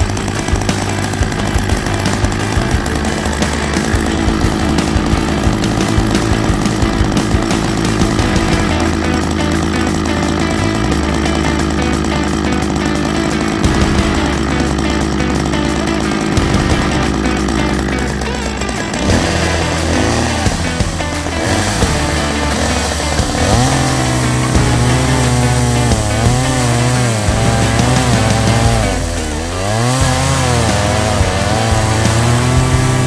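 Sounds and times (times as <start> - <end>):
chainsaw running: 0.0 - 33.0
music playing: 0.0 - 33.0.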